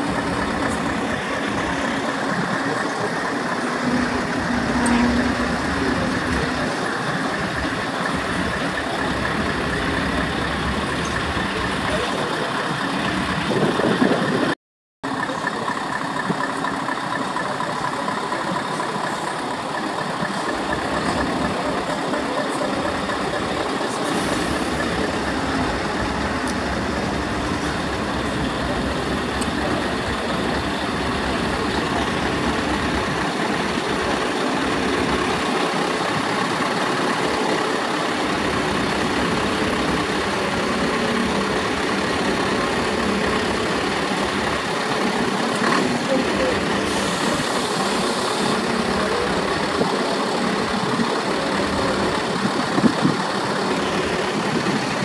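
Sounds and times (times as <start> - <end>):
diesel truck engines idling: 0.0 - 55.0.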